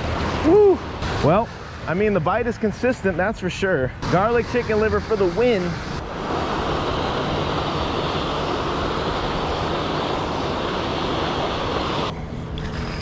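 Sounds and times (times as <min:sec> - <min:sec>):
water rushing from spillway: 0:00.0 - 0:12.1.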